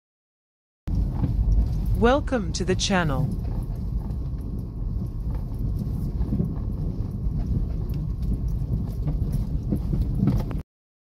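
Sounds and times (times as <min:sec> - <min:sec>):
car driving over bumpy ground: 0:00.9 - 0:10.6
knocks and rattles: 0:00.9 - 0:10.6.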